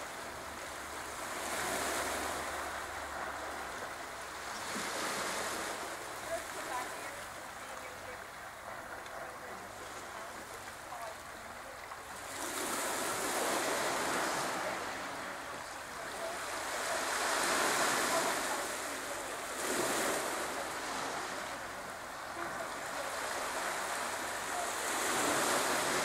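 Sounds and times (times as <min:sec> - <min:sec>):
waves washing onto pebble beach: 0:00.0 - 0:26.0.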